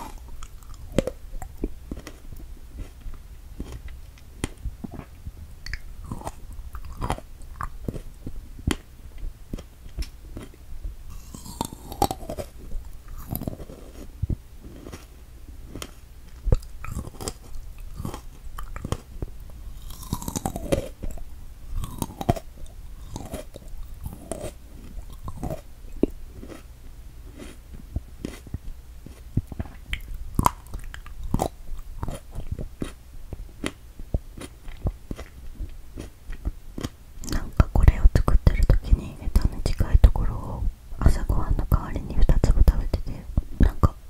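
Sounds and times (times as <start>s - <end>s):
chewing and mouth clicks: 0.0s - 8.8s, 9.5s - 15.1s, 15.7s - 26.7s, 27.3s - 33.8s, 34.4s - 39.9s.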